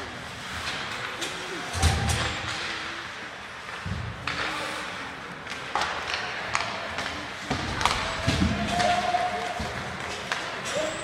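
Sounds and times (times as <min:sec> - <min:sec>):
crowd hubbub: 0:00.0 - 0:11.0
hockey sticks clacking on puck: 0:00.4 - 0:02.9, 0:03.6 - 0:11.0.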